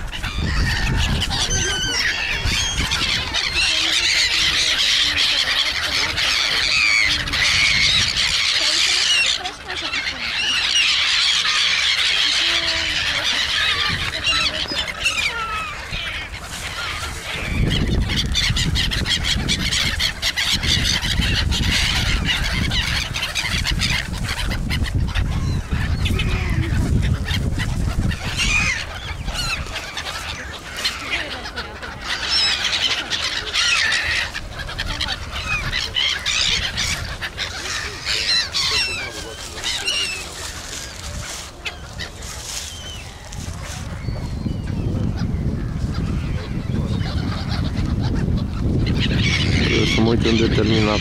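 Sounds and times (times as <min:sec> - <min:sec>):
gulls calling: 0:00.0 - 0:51.0.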